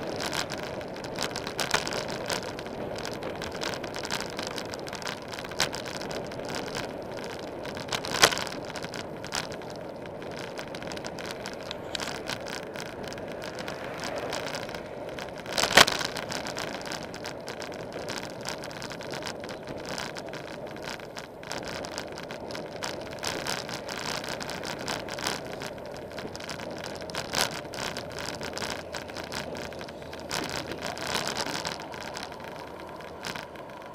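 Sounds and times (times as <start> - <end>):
road noise: 0.0 - 33.9
small clicks and rattles: 0.0 - 33.9
wind buffeting microphone: 0.0 - 33.9.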